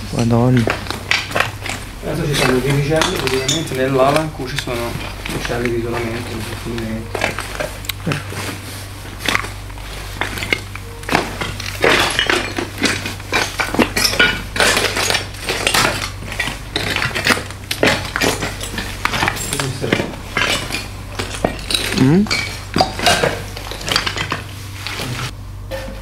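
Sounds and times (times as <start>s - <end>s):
glass and metal debris crunching: 0.4s - 25.3s.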